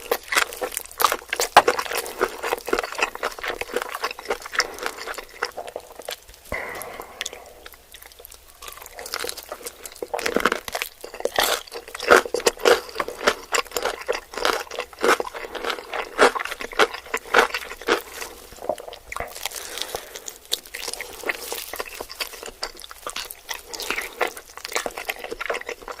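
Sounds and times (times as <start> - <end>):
crunchy chewing and biting: 0.0 - 26.0.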